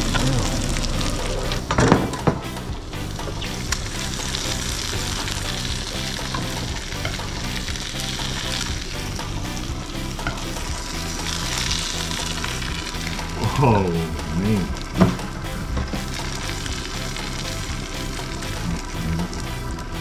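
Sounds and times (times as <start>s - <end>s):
background music: 0.0s - 20.0s
food sizzling in a pan: 0.0s - 20.0s.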